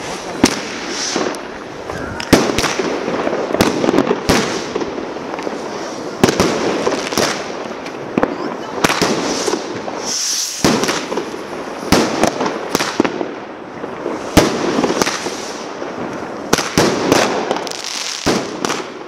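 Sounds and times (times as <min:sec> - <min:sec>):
fireworks bangs: 0:00.0 - 0:19.0
fireworks hiss: 0:00.0 - 0:19.0.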